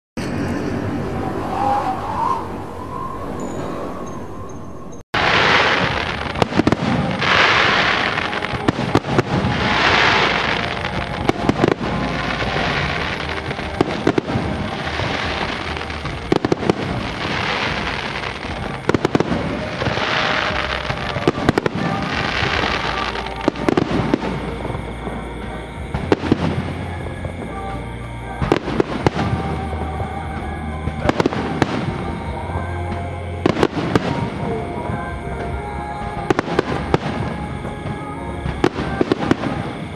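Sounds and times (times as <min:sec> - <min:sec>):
music playing: 0:02.4 - 0:39.9
fireworks bangs and crackling: 0:05.2 - 0:39.9
fireworks hissing: 0:05.2 - 0:39.9.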